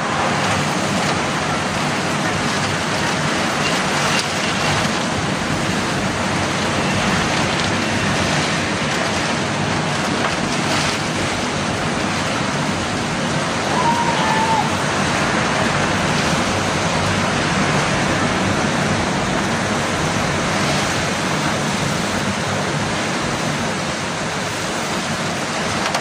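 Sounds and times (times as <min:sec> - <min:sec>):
driving rain: 0:00.0 - 0:26.0
strong gusting wind: 0:00.0 - 0:26.0.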